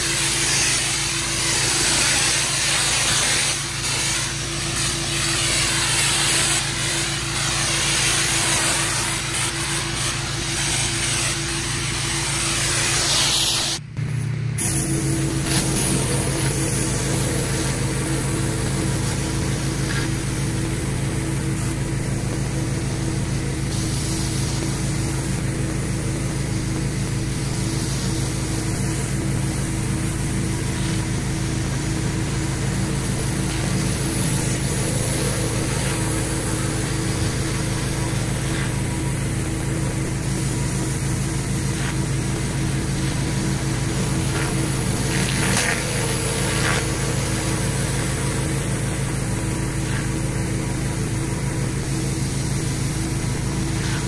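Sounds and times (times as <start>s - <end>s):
water jets hissing on concrete: 0.0s - 13.8s, 14.6s - 54.0s
pressure washer engine humming: 0.0s - 54.0s.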